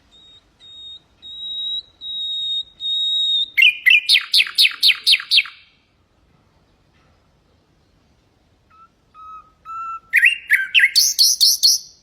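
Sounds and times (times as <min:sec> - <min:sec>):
nightingale singing: 0:00.0 - 0:06.0, 0:07.5 - 0:12.0.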